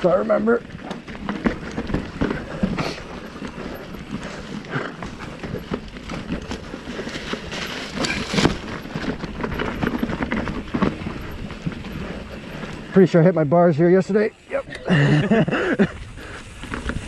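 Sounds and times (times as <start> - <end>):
bike chain and frame rattling: 0.0 - 14.2, 15.0 - 17.0.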